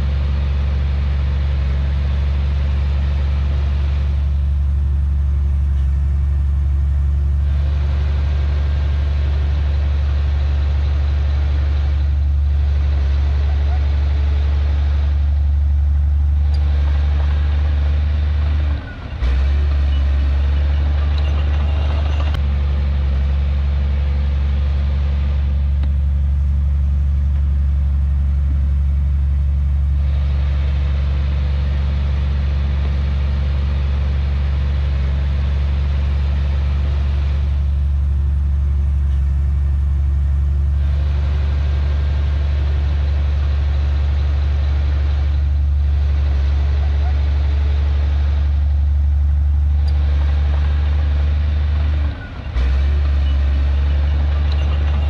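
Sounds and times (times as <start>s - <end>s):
heavy diesel engine drone: 0.0s - 55.0s.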